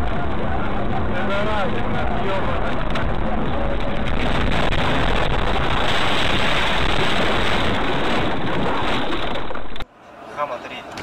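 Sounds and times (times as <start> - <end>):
wind rushing on microphone: 0.0 - 9.8.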